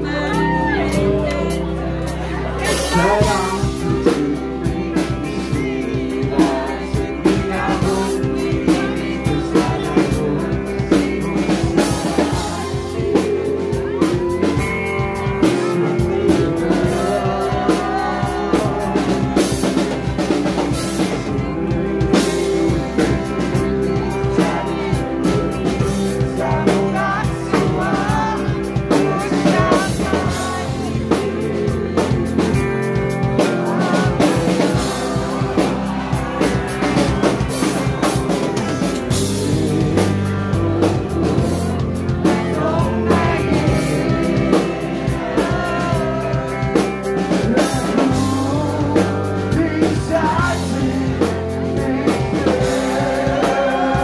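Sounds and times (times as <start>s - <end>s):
live rock band: 0.0s - 54.0s
man singing: 0.0s - 54.0s.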